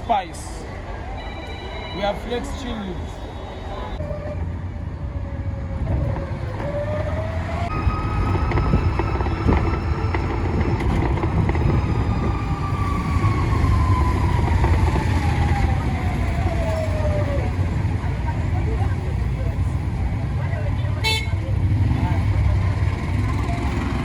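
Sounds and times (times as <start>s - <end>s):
motor vehicle engine rumbling: 3.2s - 24.0s.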